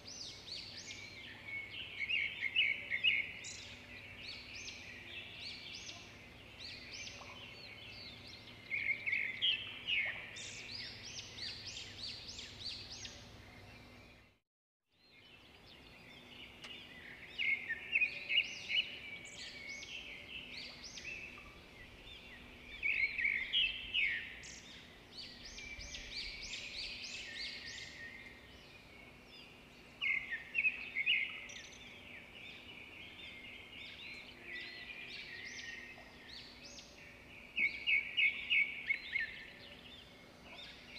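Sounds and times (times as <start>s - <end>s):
small birds chirping: 0.0s - 14.4s, 15.0s - 40.9s.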